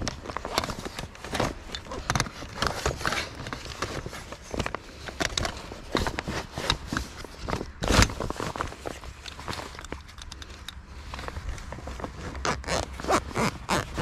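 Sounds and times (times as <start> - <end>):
person moving and handling gear: 0.0 - 14.0.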